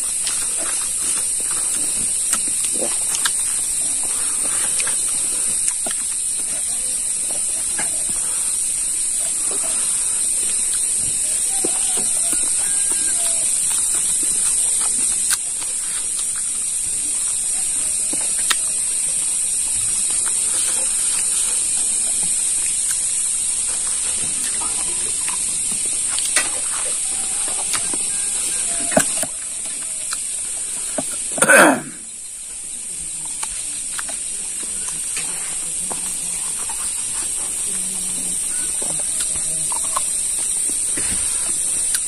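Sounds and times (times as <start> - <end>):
chewing and lip-smacking: 0.0 - 31.4, 33.2 - 42.0
steady high-pitched hiss: 0.0 - 42.0.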